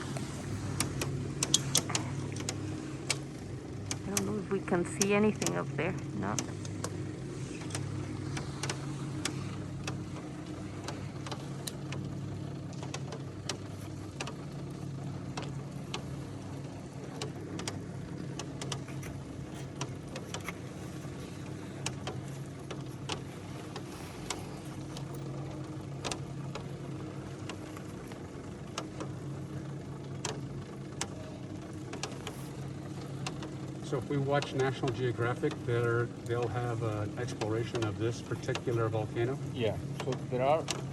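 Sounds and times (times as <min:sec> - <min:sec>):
hoist motor humming: 0:00.0 - 0:40.9.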